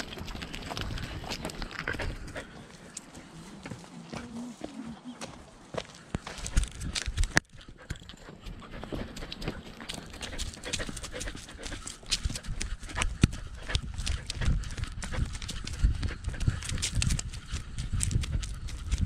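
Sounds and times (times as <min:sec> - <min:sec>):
dog steps: 0:00.0 - 0:19.0.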